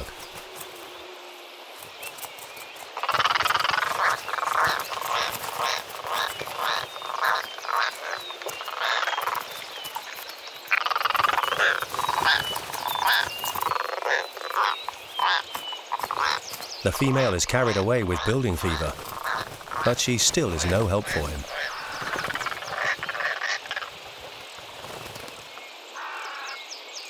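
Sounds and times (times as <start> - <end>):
bird giving rasping croaks: 0.0 - 1.1, 1.8 - 26.6.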